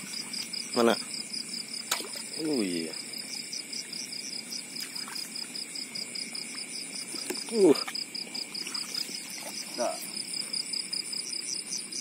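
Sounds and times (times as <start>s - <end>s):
crickets chirping: 0.0s - 12.0s
high insect hum: 0.0s - 12.0s.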